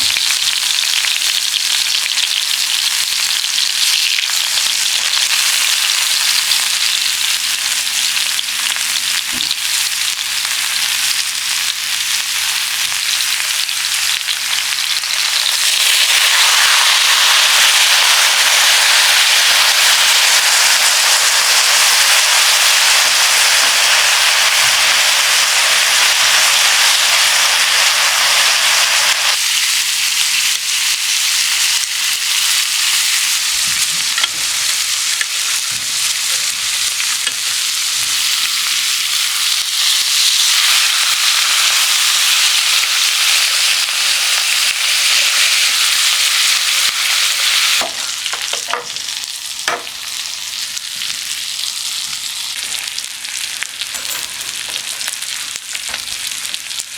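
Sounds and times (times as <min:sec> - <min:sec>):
food sizzling in hot fat: 0:00.0 - 0:56.9.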